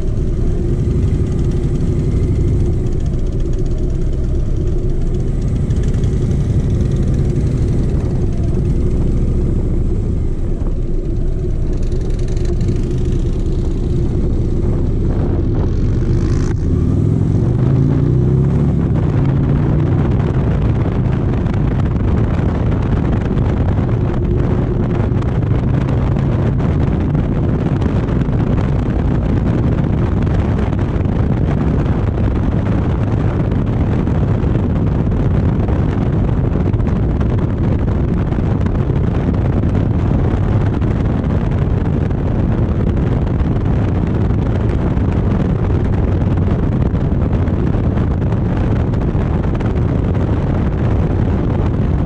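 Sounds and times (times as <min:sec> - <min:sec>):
motorcycle engine: 0:00.0 - 0:52.0
wind and road noise: 0:00.0 - 0:52.0.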